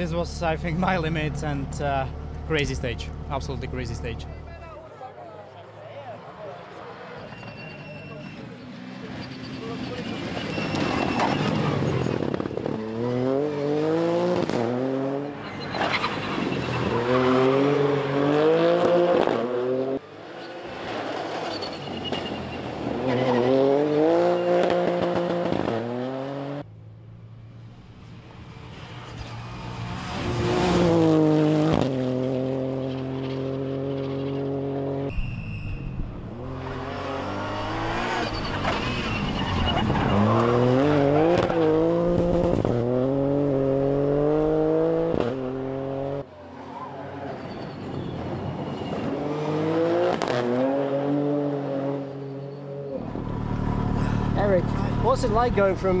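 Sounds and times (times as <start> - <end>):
rally car engines revving: 6.0 - 26.7, 28.2 - 35.2, 36.1 - 56.0.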